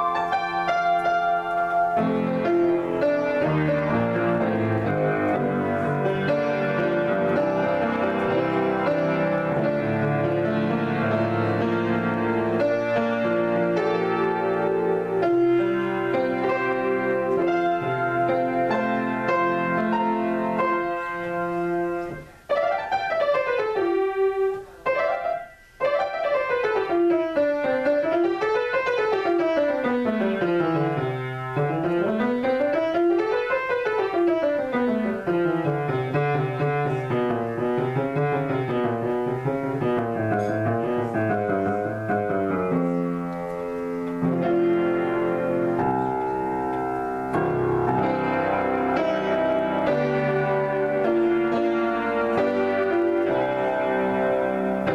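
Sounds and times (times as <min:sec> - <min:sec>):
solo piano: 0:00.0 - 0:54.9.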